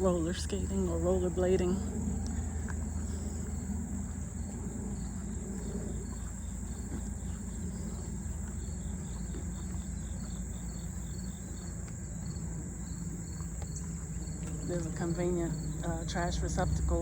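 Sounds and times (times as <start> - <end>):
insects buzzing: 0.0 - 17.0
low steady rumble: 0.0 - 17.0
rhythmic insect chirping: 0.0 - 17.0.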